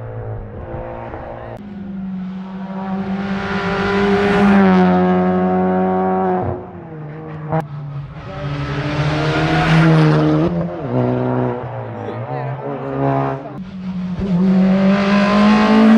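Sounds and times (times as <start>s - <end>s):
rally car engine at full throttle: 0.0s - 15.9s.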